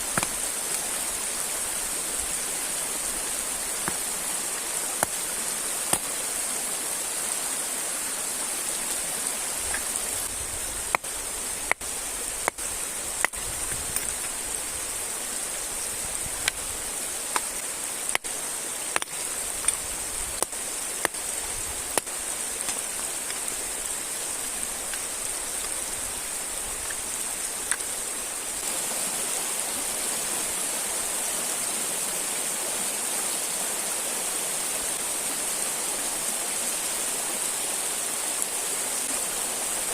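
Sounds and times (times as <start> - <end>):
river and waterfall rushing: 0.0 - 39.9.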